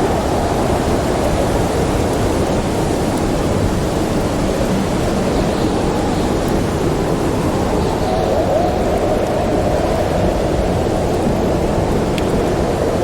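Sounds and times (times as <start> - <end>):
snowstorm wind rushing: 0.0 - 13.0.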